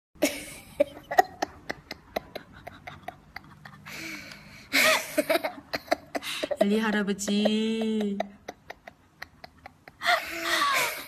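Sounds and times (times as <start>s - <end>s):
girl giggling and laughing: 0.2s - 11.0s.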